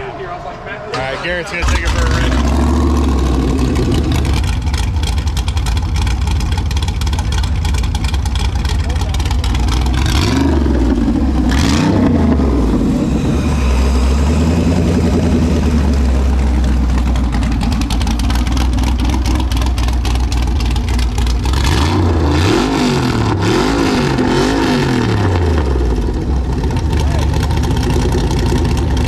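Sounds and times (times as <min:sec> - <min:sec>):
car engine revving: 0:00.9 - 0:29.0.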